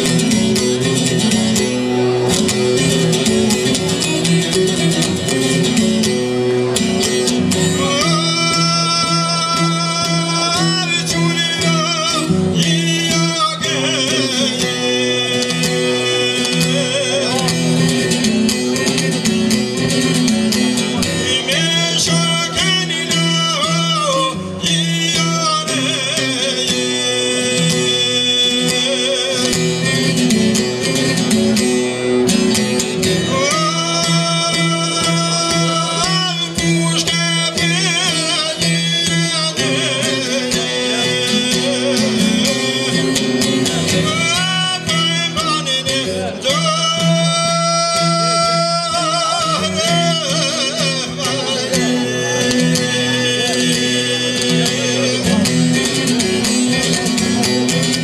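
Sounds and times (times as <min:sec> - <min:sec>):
man singing: 0:00.0 - 0:58.0
strummed lute: 0:00.0 - 0:58.0.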